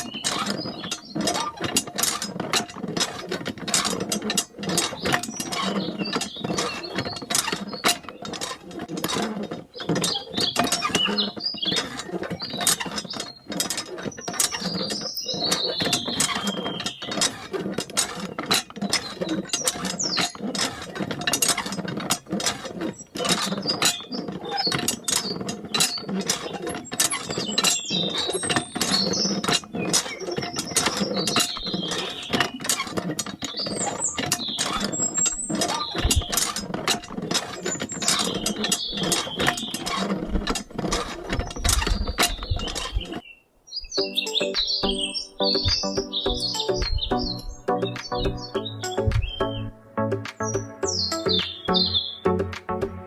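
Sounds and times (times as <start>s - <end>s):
plastic gears clattering: 0.0s - 43.3s
short high squeaks: 0.0s - 53.0s.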